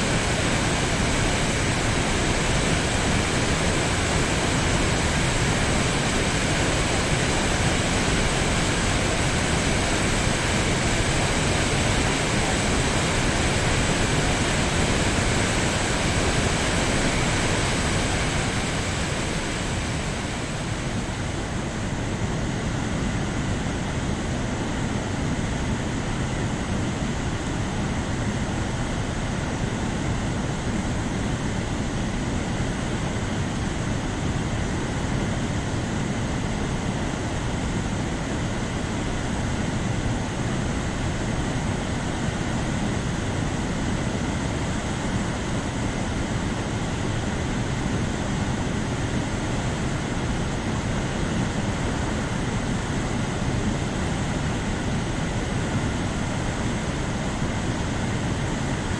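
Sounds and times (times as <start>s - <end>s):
turbulent water rushing: 0.0s - 58.9s.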